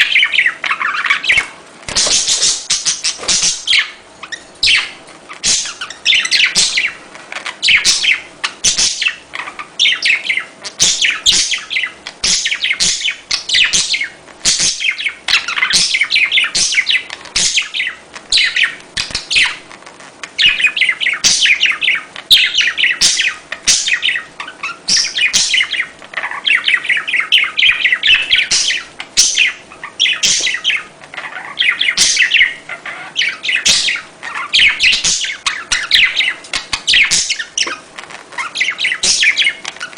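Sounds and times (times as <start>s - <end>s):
budgerigars chattering: 0.0s - 19.7s, 20.4s - 39.9s.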